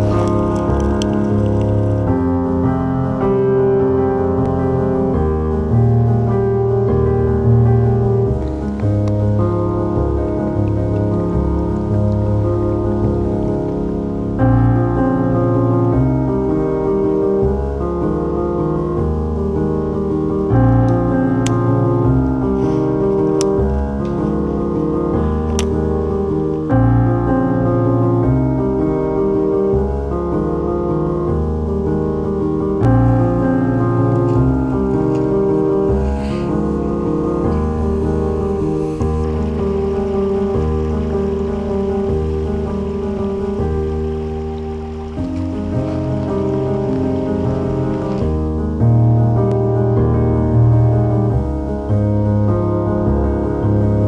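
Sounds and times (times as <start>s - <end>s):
piano playing sustained chords: 0.0s - 54.0s.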